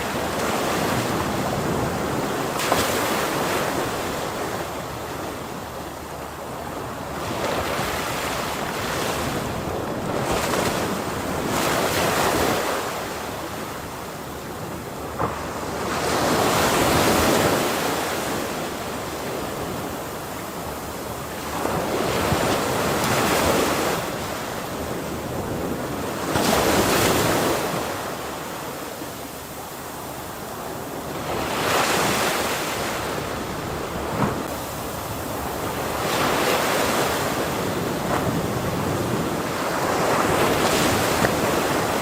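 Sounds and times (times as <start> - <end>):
ocean waves breaking: 0.0 - 42.0.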